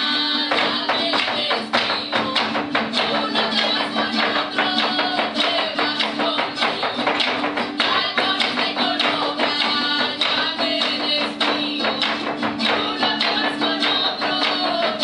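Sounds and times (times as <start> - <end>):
folk music: 0.0 - 15.0.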